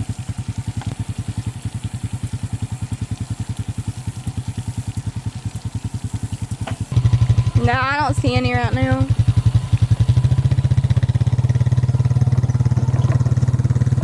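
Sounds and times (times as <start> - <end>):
engine thumping steadily: 0.0 - 14.0.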